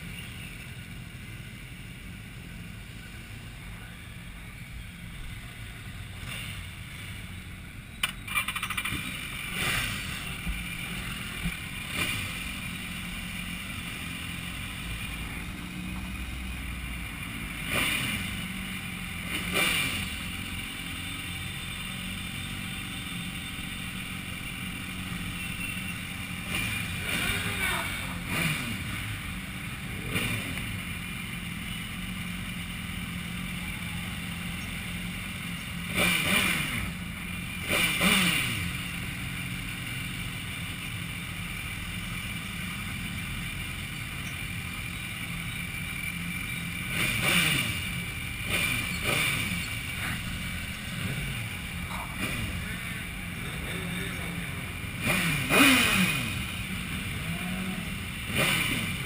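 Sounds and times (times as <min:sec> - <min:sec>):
motorcycle engines revving: 0:00.0 - 0:59.0
motorcycle engines running: 0:00.0 - 0:59.0.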